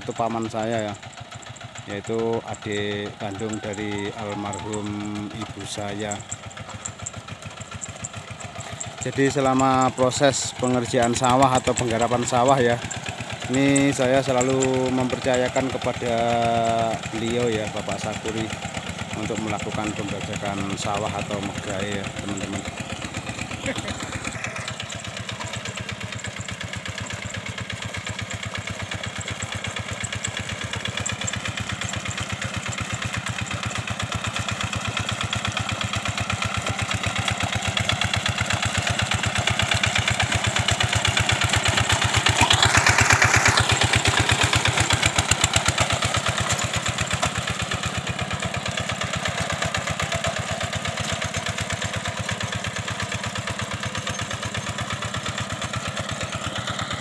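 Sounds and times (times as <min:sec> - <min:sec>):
diesel hand tractor chugging: 0:00.0 - 0:57.0.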